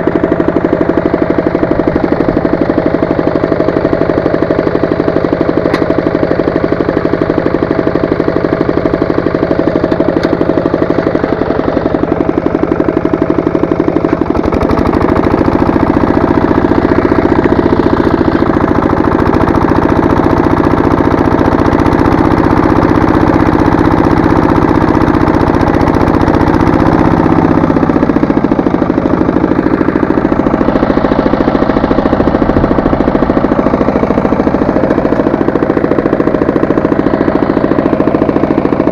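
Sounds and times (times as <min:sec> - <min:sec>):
tractor engine knocking: 0:00.0 - 0:38.9.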